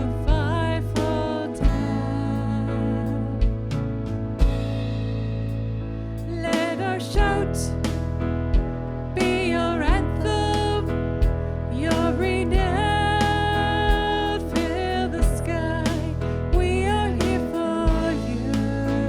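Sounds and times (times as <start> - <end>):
lead singer singing: 0.0 - 4.7, 6.2 - 19.0
steady drum beat: 0.0 - 19.0.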